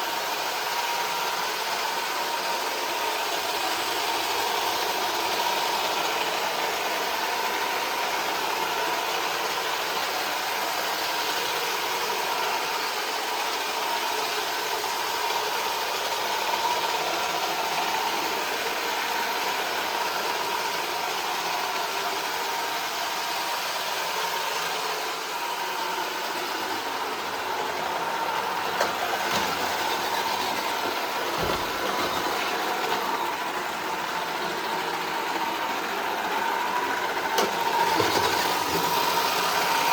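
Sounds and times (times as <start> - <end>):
robot vacuum whirring: 0.6 - 39.9.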